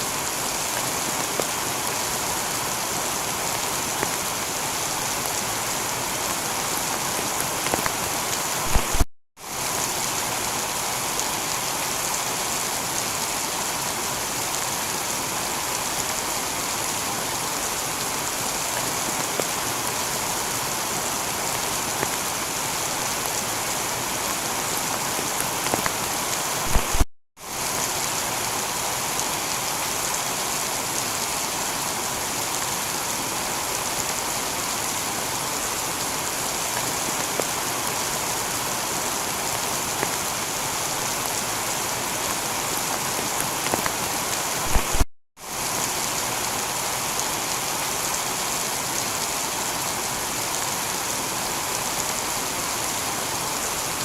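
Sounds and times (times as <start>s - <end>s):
heavy rain on a tiled roof: 0.0s - 54.0s.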